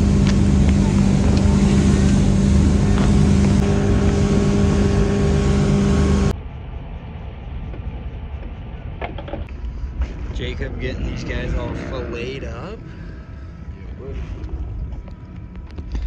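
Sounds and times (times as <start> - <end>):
low rumble: 0.0 - 16.0
motorboat engine drone: 0.0 - 16.0.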